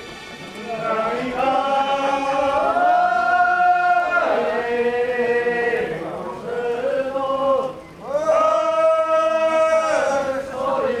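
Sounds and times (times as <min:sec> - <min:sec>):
slow chanting: 0:00.4 - 0:11.0.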